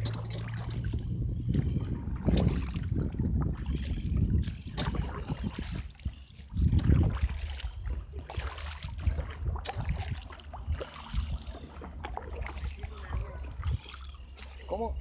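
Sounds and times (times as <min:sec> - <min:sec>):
kayak paddle splashing in water: 0:00.0 - 0:15.0
wind rumble on microphone: 0:00.0 - 0:15.0.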